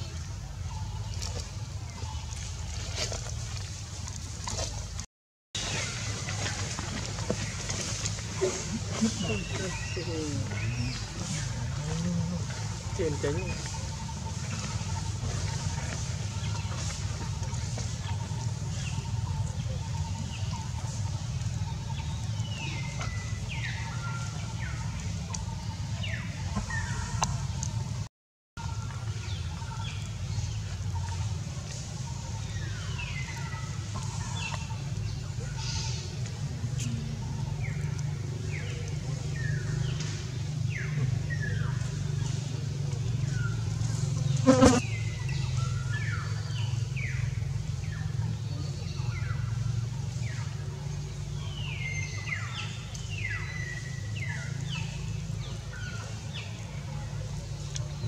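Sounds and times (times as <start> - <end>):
low buzzing hum: 5.6 - 58.0
steady low rumble: 5.7 - 58.0.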